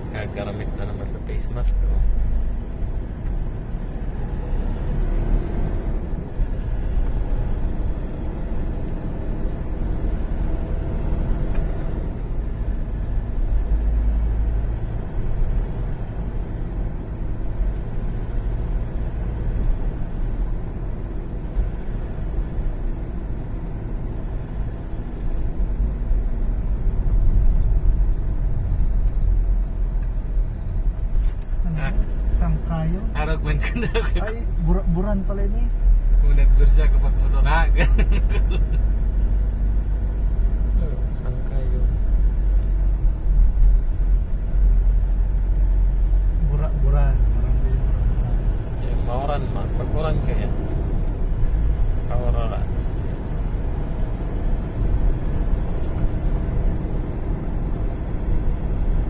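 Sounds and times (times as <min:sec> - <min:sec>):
vehicle driving on road: 0:00.0 - 0:59.0.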